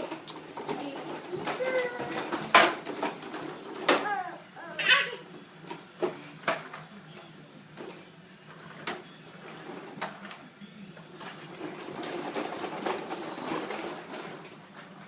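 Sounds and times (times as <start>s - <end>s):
toy trucks rolling clatter: 0.0s - 5.8s, 7.8s - 10.4s, 11.0s - 15.0s.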